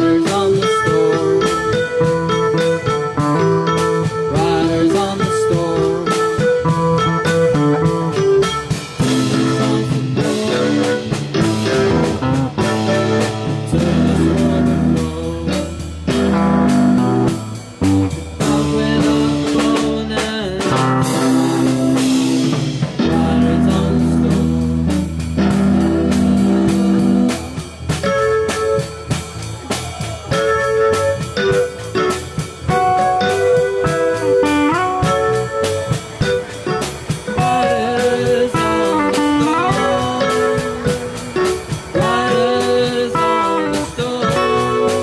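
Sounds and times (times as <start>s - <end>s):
amplified guitar: 0.0s - 45.0s
live blues-rock band: 0.0s - 45.0s
sustained bass notes: 0.0s - 45.0s.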